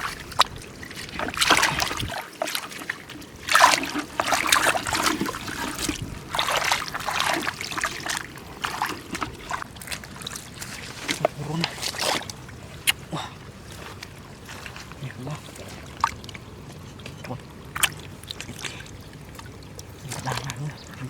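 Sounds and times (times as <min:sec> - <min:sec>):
water splashing and trickling: 0:00.0 - 0:21.0.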